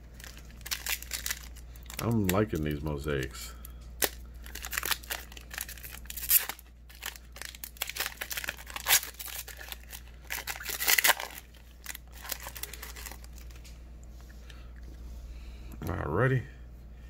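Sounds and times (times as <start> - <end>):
foil wrapper crackling: 0.0 - 13.7.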